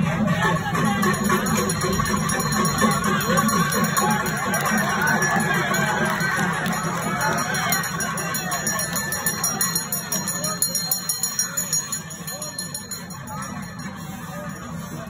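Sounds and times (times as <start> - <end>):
crowd voices: 0.0 - 15.0
hand bell ringing rapidly: 0.3 - 15.0.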